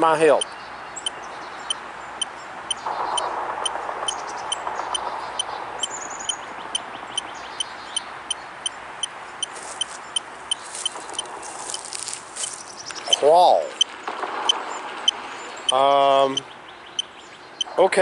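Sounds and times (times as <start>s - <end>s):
electronic device ticking: 0.0s - 12.1s, 12.9s - 13.9s, 14.5s - 17.8s.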